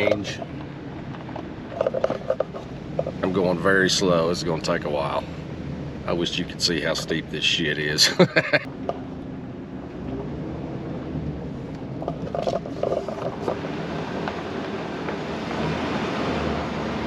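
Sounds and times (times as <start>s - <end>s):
truck engine hum: 0.0s - 17.0s
tyre and road noise: 0.0s - 17.0s.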